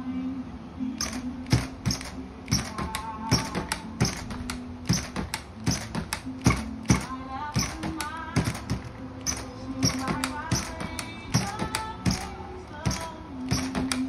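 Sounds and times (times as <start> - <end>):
music: 0.0 - 14.0
toy car tapping on table: 1.0 - 14.0.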